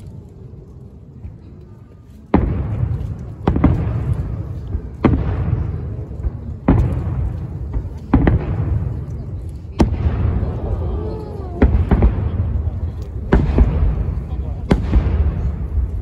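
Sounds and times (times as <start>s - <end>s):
firework shells booming: 2.3s - 16.0s.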